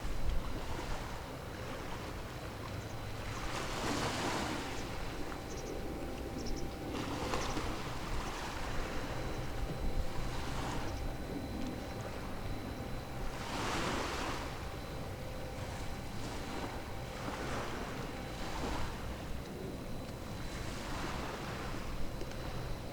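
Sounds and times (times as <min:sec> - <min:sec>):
waves washing in: 0:00.0 - 0:22.9
wind rumble on microphone: 0:00.0 - 0:22.9.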